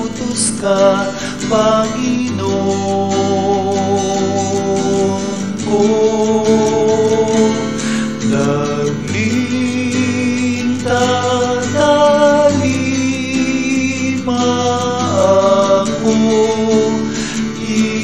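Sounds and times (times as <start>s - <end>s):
hymn with acoustic guitar: 0.0s - 18.0s
person singing long notes: 0.0s - 18.0s.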